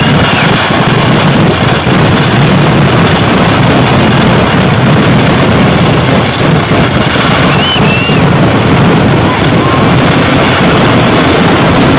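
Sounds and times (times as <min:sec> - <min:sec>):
rapid firecracker blasts: 0:00.0 - 0:11.9.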